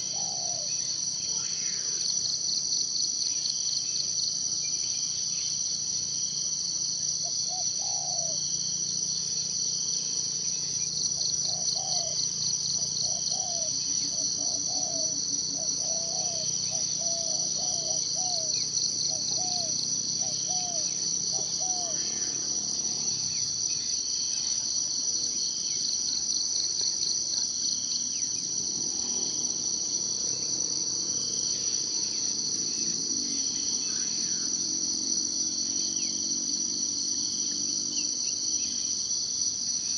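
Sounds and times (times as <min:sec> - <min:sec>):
crickets chorus: 0:00.0 - 0:39.9.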